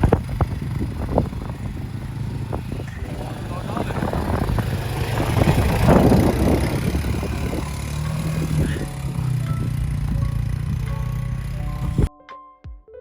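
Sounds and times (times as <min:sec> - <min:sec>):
atv engine running: 0:00.0 - 0:12.1
rush of noise: 0:00.0 - 0:12.1.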